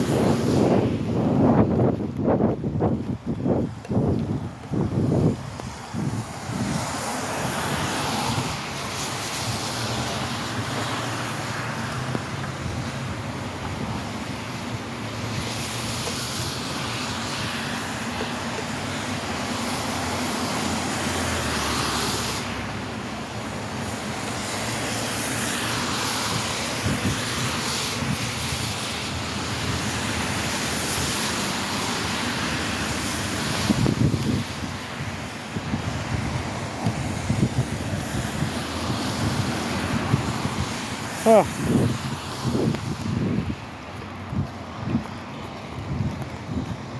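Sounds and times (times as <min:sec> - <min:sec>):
tyre noise on wet road: 0:00.0 - 0:46.9.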